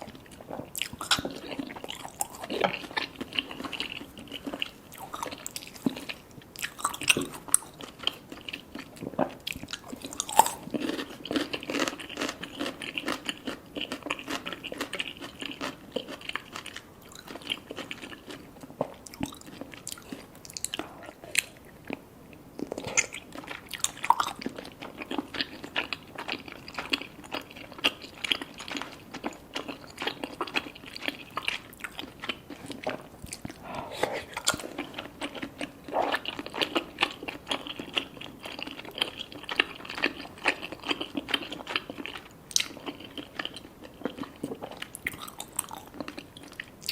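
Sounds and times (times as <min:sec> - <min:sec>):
wet chewing and smacking: 0:00.0 - 0:22.0, 0:22.6 - 0:46.9.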